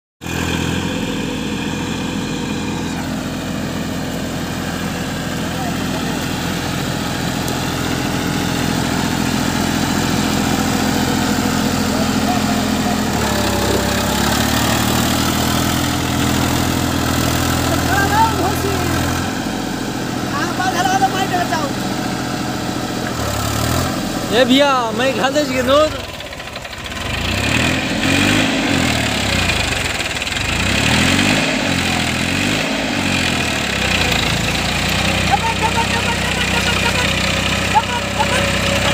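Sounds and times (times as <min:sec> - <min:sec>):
tractor diesel engine running: 0:00.2 - 0:38.9.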